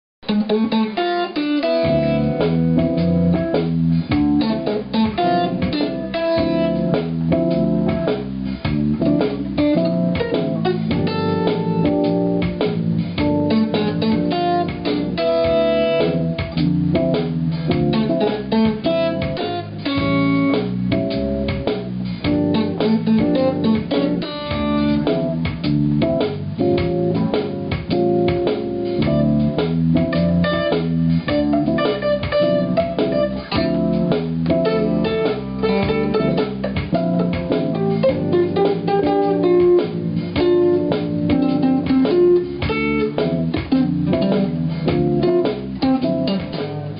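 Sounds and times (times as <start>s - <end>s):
blues guitar playing: 0.2s - 46.9s.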